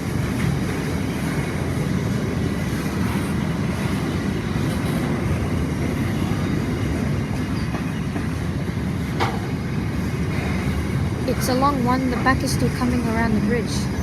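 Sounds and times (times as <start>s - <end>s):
freight train wheels rolling on rails: 0.0s - 14.0s.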